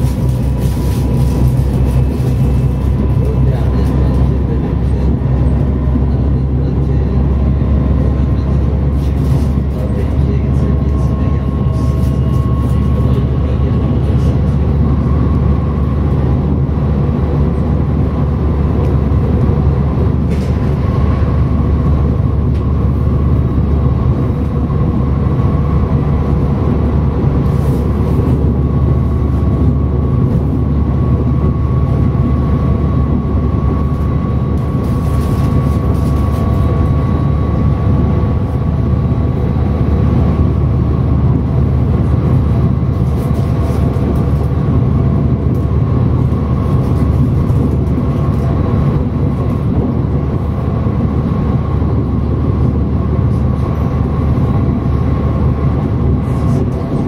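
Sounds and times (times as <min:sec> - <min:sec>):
steady high whine: 0:00.0 - 0:57.0
train wheels rumbling: 0:00.0 - 0:57.0.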